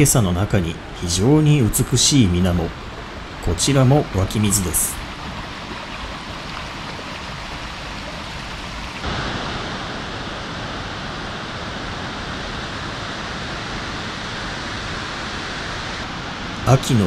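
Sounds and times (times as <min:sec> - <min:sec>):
stream running over rocks: 0:00.0 - 0:17.0
waterfall rushing: 0:00.0 - 0:17.0.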